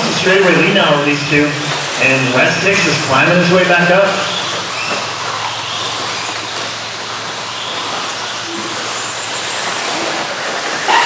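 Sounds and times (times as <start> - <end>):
electric motor whine and tyres: 0.0 - 11.0.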